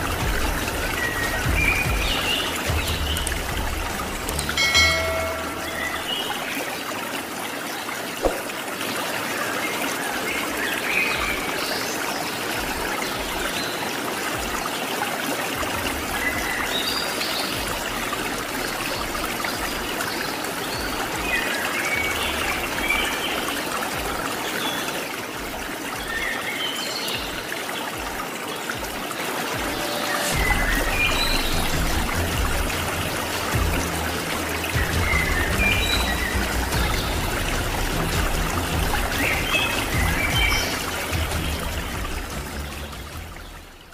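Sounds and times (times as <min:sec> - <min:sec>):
river water rushing over rocks: 0:00.0 - 0:43.9.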